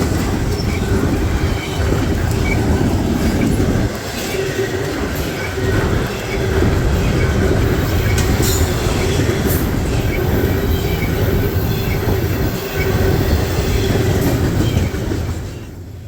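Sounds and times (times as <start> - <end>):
steel wheels rumbling on rail: 0.0 - 16.0
wheels clicking over rail joints: 0.0 - 16.0
wheel squeal: 0.5 - 15.7.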